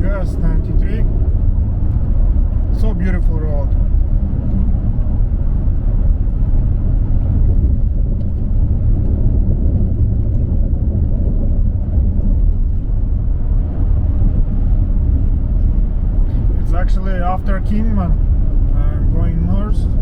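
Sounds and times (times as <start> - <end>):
car road rumble from inside cabin: 0.0 - 20.0.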